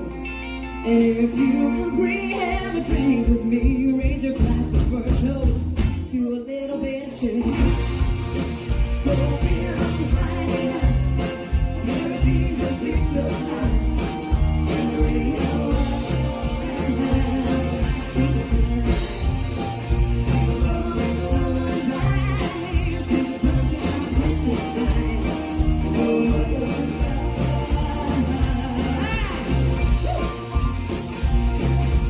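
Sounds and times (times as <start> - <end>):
country band playing: 0.0 - 32.0
lead vocal singing: 0.8 - 31.0.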